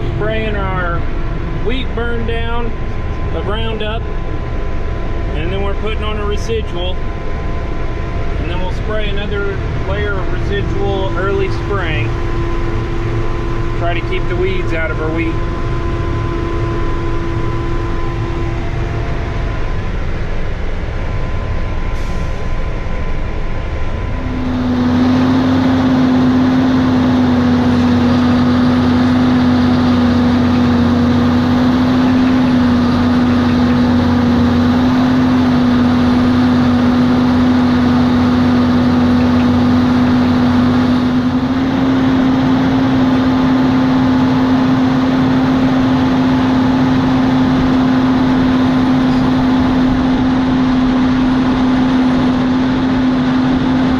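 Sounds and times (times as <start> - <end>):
farm machine engine running: 0.0 - 53.9.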